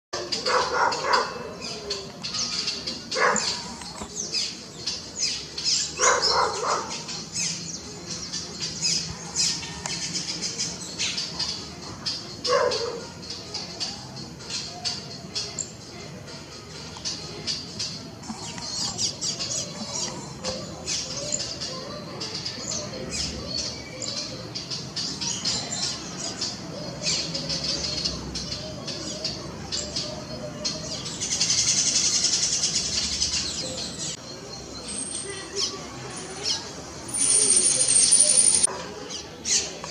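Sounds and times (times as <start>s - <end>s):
birds chirping: 0.2s - 39.9s.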